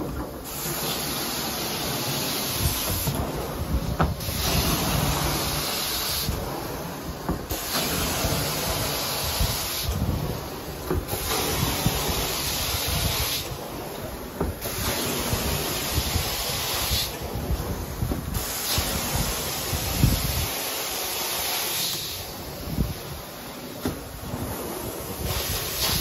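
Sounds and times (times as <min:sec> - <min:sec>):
carpet extractor suction roar: 0:00.0 - 0:26.0.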